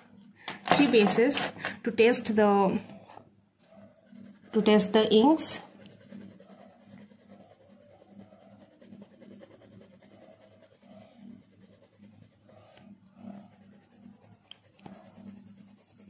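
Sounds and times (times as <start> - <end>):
pencil scribbling on paper: 2.1 - 16.0.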